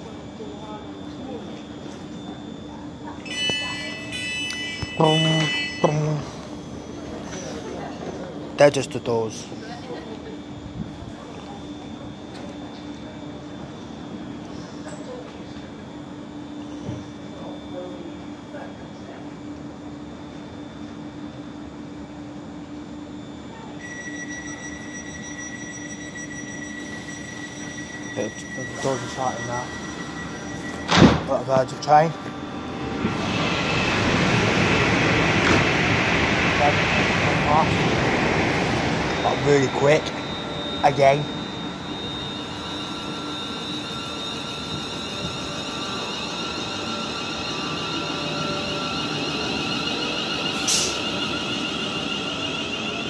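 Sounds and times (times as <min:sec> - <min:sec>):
high-pitched whine: 0:00.0 - 0:15.2, 0:23.2 - 0:53.0
electric train humming: 0:00.0 - 0:53.0.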